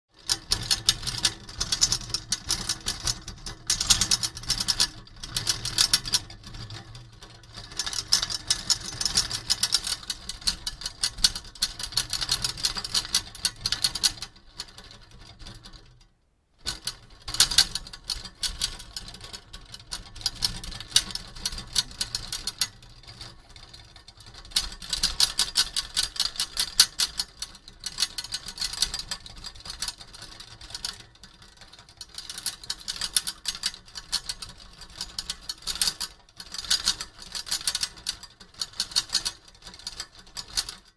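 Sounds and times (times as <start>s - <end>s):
metal parts rattling: 0.2s - 15.8s, 16.7s - 40.9s.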